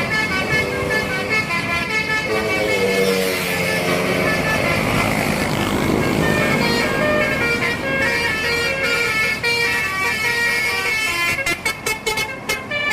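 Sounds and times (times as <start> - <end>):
bus passing close by: 0.0 - 12.9
multi-tone bus horn melody: 0.0 - 12.9.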